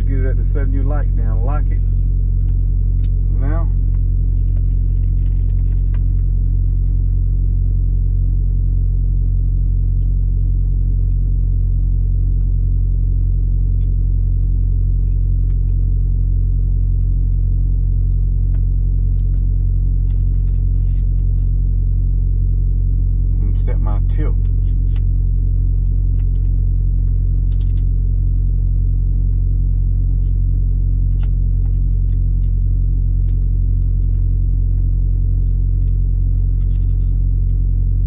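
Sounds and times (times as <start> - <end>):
low rumble and hum: 0.0 - 38.0.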